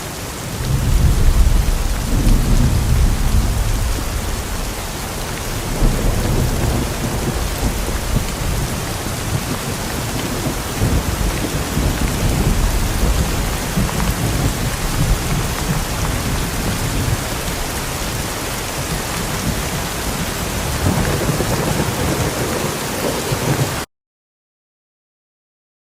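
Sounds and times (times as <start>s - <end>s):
heavy rain: 0.0s - 23.9s
low rumbling thunder: 0.4s - 23.7s.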